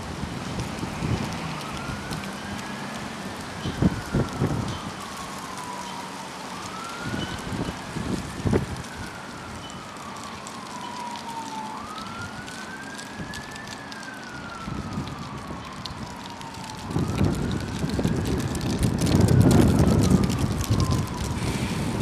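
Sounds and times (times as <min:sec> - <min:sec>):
siren wailing: 0:00.7 - 0:22.0.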